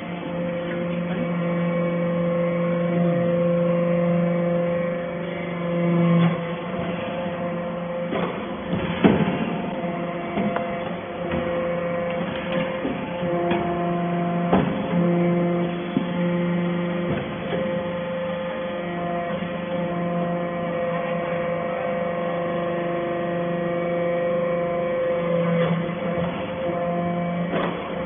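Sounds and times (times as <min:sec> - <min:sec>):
hydraulic baler humming and whining: 0:00.0 - 0:28.0.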